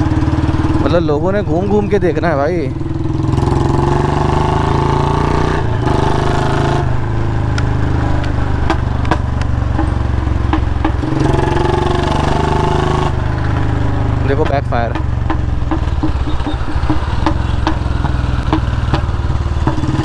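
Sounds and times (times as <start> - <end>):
exhaust pops: 0.0 - 20.0
motorcycle engine running: 0.0 - 20.0.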